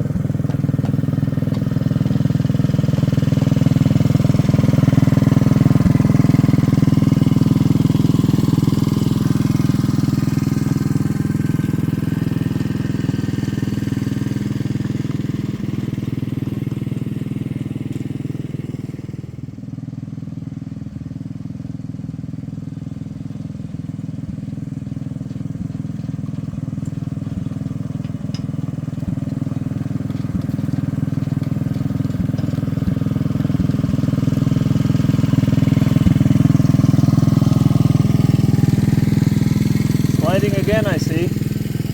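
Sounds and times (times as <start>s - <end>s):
rail vehicle engine running: 0.0s - 41.9s.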